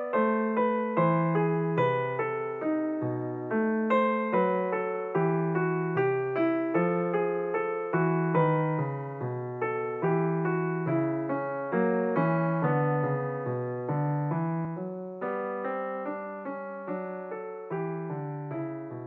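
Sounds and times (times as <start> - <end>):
slow piano notes: 0.0 - 19.0.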